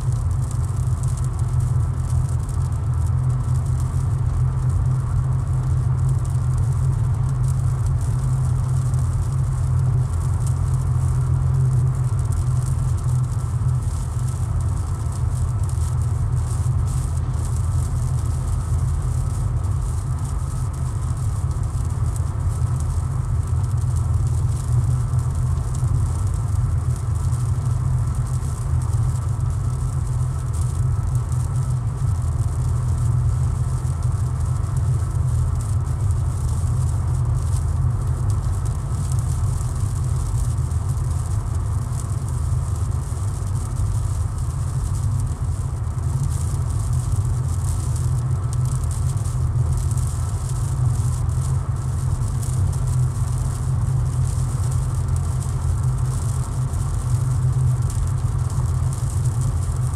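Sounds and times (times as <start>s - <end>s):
rain ticking on car: 0.2s - 59.9s.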